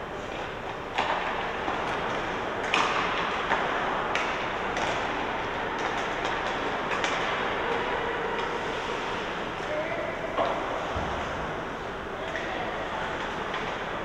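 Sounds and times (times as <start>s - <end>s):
ice rink noise: 0.0s - 14.0s.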